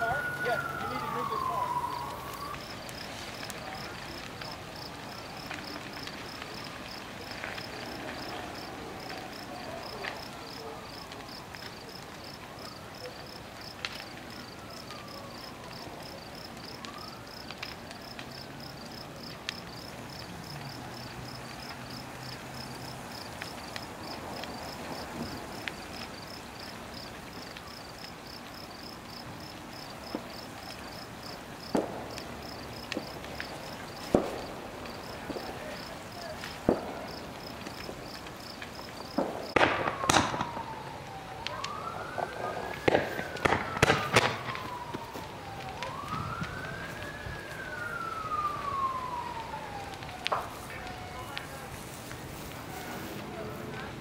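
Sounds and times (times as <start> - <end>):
distant siren wailing: 0.0 - 54.0
fire crackling and popping: 0.0 - 54.0.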